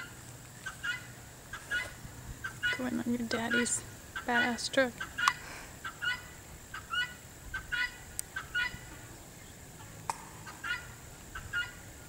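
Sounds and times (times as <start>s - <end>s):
poultry harsh calls: 0.0s - 12.0s.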